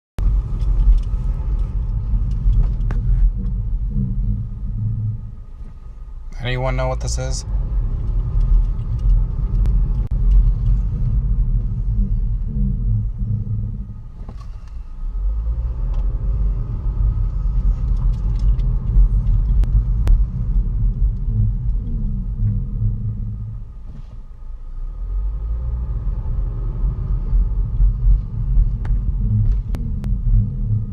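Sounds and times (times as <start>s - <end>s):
car low-pitched noise: 0.2s - 30.9s.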